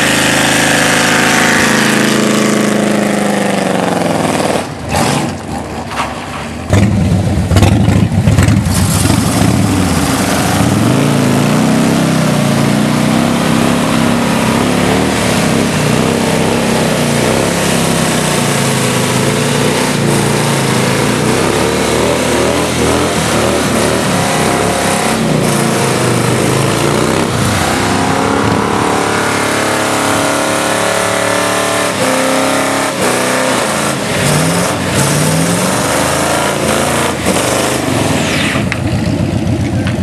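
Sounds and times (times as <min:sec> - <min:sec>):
car engine revving: 0:00.0 - 0:05.5, 0:06.7 - 0:39.6
motorcycle engine revving: 0:00.0 - 0:05.5, 0:06.7 - 0:40.0.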